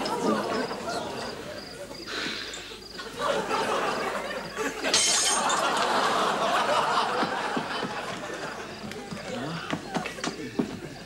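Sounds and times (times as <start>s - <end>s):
crowd laughing: 0.0s - 11.0s.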